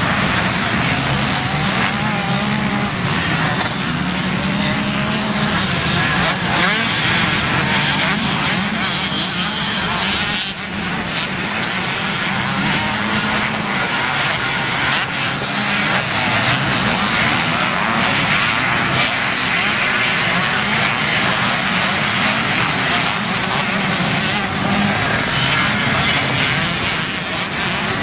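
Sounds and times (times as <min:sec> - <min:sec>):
motocross bikes racing: 0:00.0 - 0:28.0.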